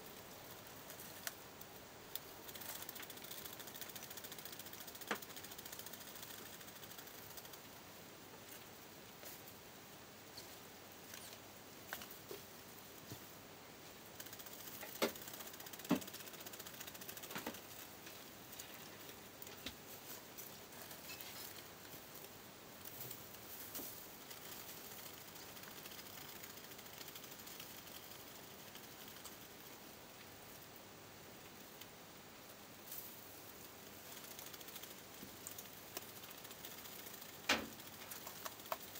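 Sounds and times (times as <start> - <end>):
mice rustling through hay: 0.0 - 9.6, 10.3 - 30.7, 31.4 - 38.9.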